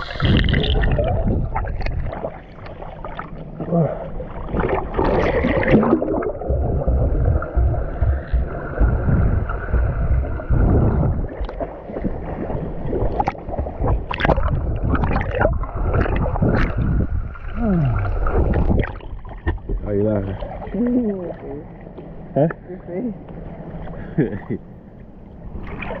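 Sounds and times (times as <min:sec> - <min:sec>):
muffled underwater rumble: 0:00.0 - 0:26.0
sea water sloshing and gurgling: 0:00.0 - 0:26.0.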